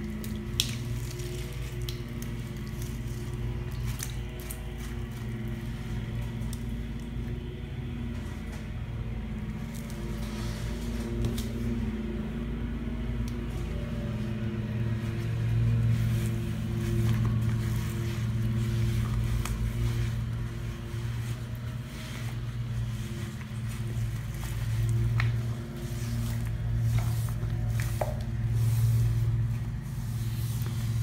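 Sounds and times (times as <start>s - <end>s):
wet sponges squishing in sink: 0.0s - 31.0s.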